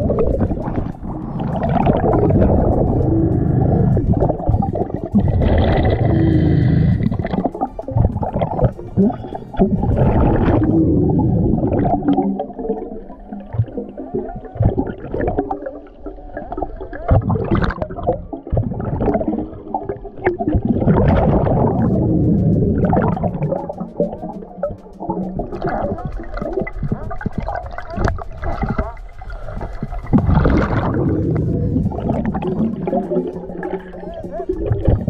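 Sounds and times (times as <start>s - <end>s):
bubbles gurgling underwater: 0.0s - 35.0s
deep underwater rumble: 0.0s - 35.0s.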